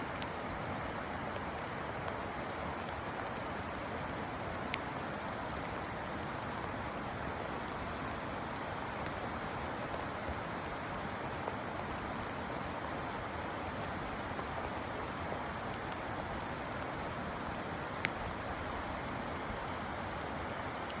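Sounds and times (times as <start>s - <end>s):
steady rain hiss: 0.0s - 21.0s
raindrop ticks: 0.1s - 6.8s, 7.6s - 16.2s, 16.8s - 18.8s.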